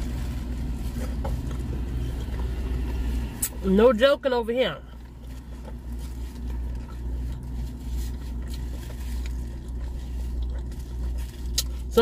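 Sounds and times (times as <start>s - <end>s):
low hum of parked car: 0.0s - 12.0s.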